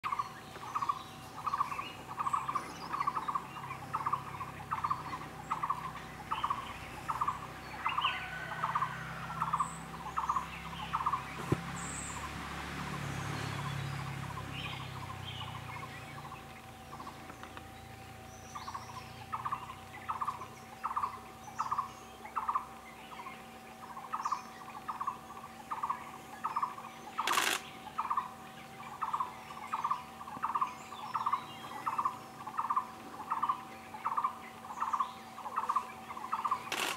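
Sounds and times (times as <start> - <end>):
faint hum: 0.0 - 36.9.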